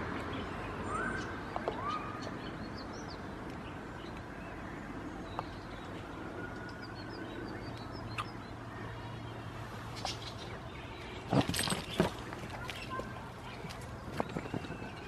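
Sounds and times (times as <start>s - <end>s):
small birds calling: 0.0s - 15.0s.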